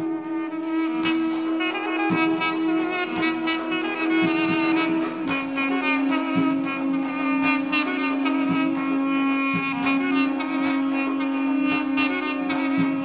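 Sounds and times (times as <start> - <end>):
soft beat: 0.0 - 13.0.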